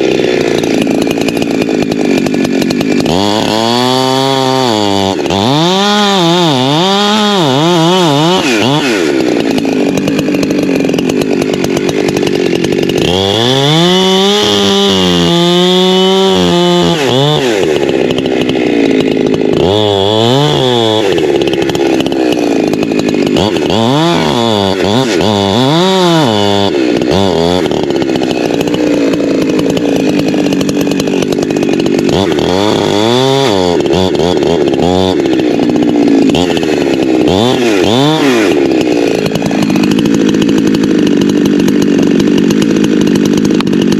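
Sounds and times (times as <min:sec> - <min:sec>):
chainsaw cutting into tree: 0:00.0 - 0:43.9.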